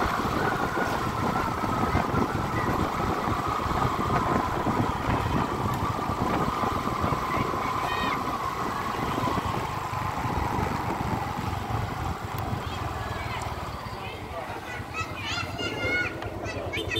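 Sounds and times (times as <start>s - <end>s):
road noise rumble: 0.0s - 16.9s
vehicle engine hum and whine: 0.0s - 16.9s.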